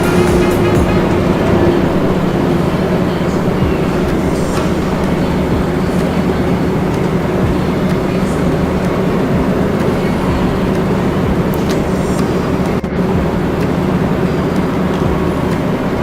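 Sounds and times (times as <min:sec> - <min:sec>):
loud mechanical rumble and hum: 0:00.0 - 0:16.0.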